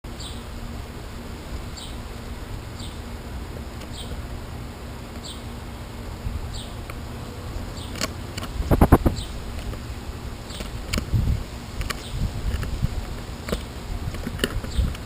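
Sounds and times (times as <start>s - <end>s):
steady low rumble: 0.7s - 15.0s.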